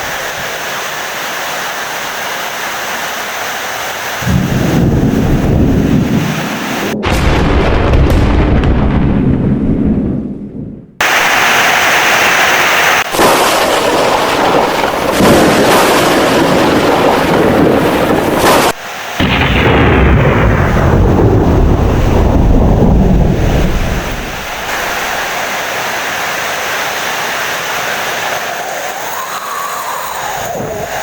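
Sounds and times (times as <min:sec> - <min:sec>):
heavy rain: 0:00.0 - 0:07.2, 0:11.0 - 0:31.0
thunder rumbling: 0:04.2 - 0:31.0.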